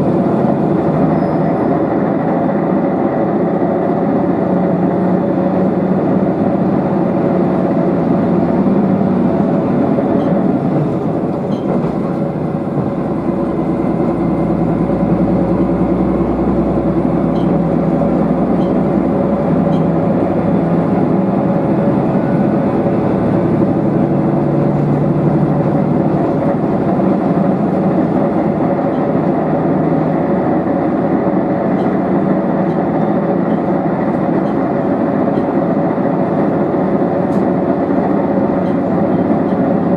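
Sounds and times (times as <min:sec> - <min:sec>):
railcar engine hum: 0:00.0 - 0:39.9
train wheels rumbling on rails: 0:00.0 - 0:39.9.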